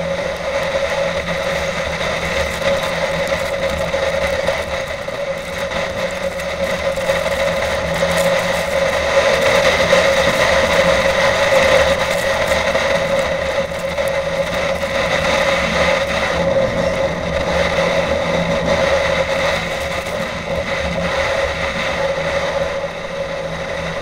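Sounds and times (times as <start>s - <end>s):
snowmobile engine droning: 0.0s - 24.0s.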